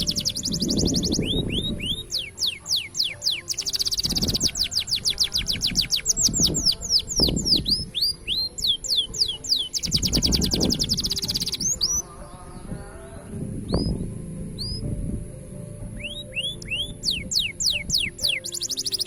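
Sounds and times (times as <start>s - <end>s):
canary singing trills: 0.0s - 15.0s, 15.9s - 19.0s.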